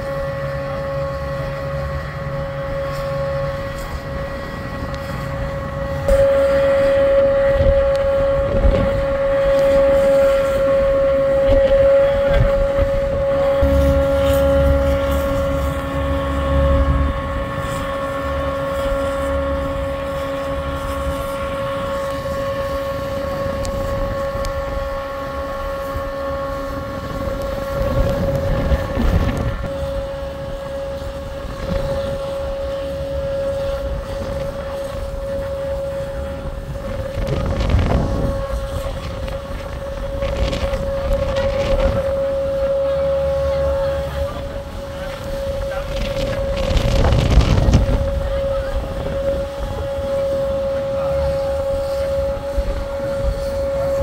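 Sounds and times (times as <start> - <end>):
deep engine rumble: 0.0 - 54.0
diesel engine whining: 0.0 - 54.0.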